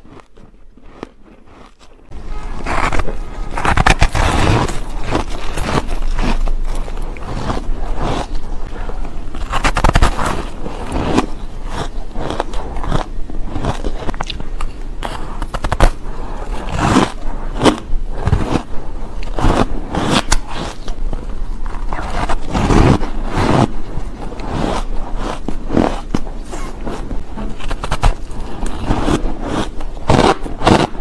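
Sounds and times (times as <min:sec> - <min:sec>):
chewing crunchy shaved ice: 0:00.0 - 0:31.0.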